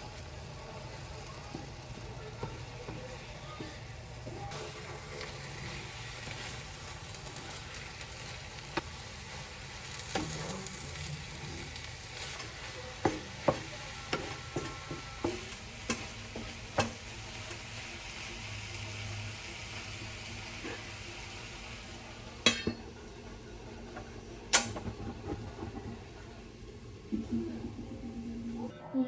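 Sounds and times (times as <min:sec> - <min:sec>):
food sizzling in a pan: 0:00.0 - 0:28.7.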